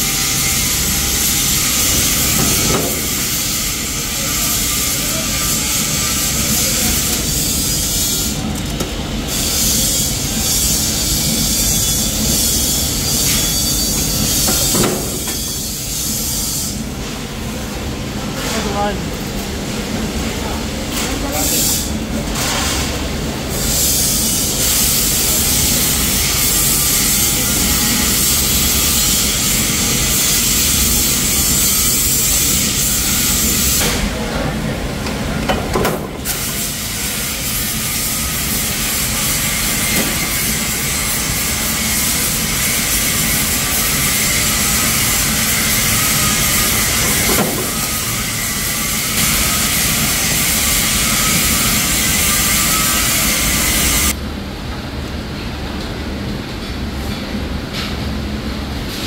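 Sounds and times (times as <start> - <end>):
workshop machinery rumbling: 0.0 - 59.0.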